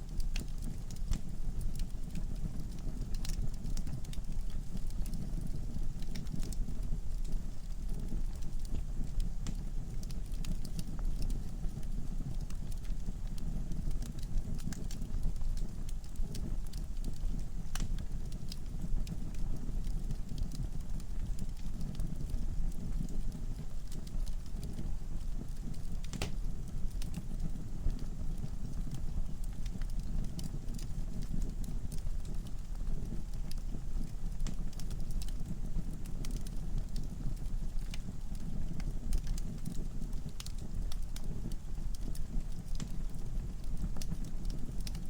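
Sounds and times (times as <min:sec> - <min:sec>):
fire flames rumbling: 0:00.0 - 0:45.0
logs crackling and popping: 0:00.0 - 0:45.0.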